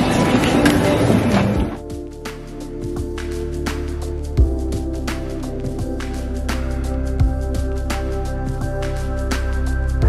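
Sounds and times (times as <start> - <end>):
background music: 0.0 - 10.0
noisy ambient sound: 0.0 - 10.0.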